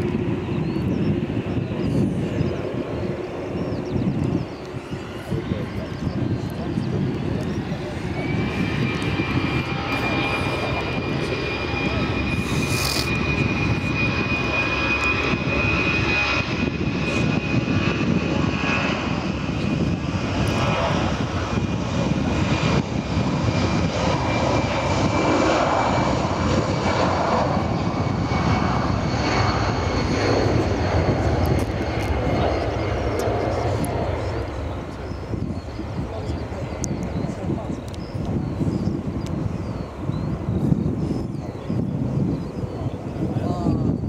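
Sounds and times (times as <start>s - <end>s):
airliner engines and airflow: 0.0s - 44.0s.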